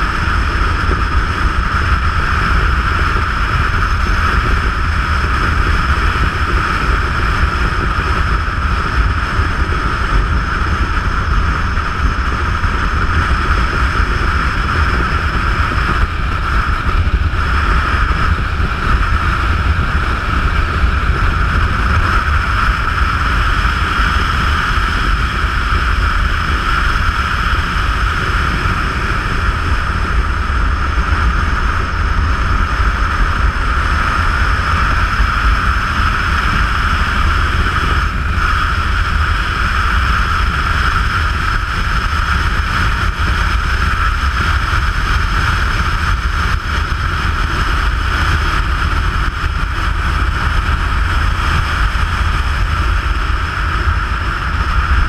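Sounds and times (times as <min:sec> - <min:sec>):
loud wind rush: 0:00.0 - 0:55.0
motorcycle engine drone: 0:00.0 - 0:55.0.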